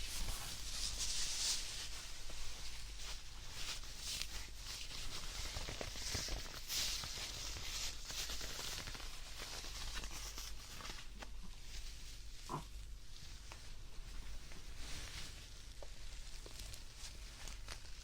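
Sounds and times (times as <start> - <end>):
plush toy rustling and scratching: 0.0 - 18.0.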